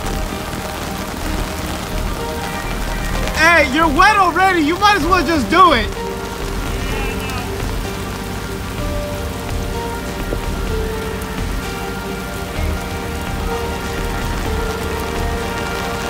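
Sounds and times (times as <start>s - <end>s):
faint steady tones: 0.0s - 16.0s
heavy rain on standing water: 0.0s - 16.0s.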